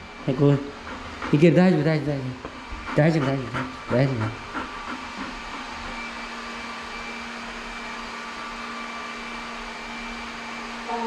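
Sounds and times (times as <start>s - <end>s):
robot vacuum cleaner running: 0.0s - 11.0s.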